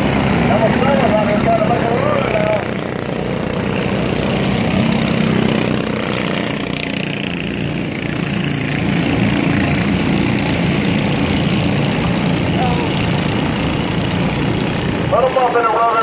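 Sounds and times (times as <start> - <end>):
small race car engines: 0.0 - 16.0.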